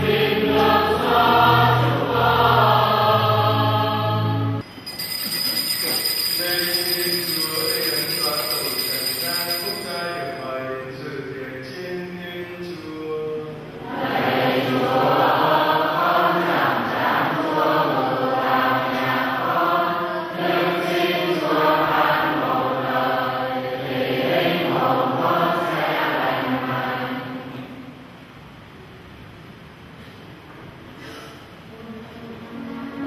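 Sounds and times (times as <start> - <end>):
congregation chanting: 0.0 - 4.6, 5.6 - 27.8.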